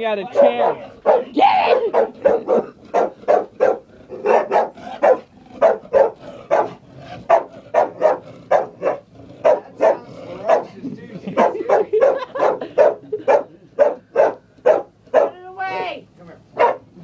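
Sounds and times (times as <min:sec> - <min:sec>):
dog barking rapidly: 0:00.2 - 0:10.7, 0:11.4 - 0:15.4, 0:16.5 - 0:17.0.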